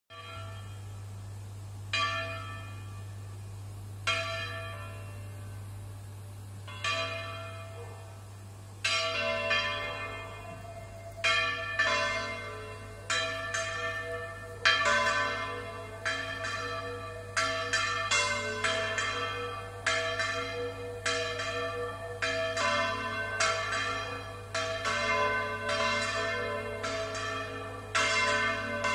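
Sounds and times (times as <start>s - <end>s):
church bells ringing: 0.1s - 1.1s, 1.9s - 5.8s, 6.6s - 28.9s.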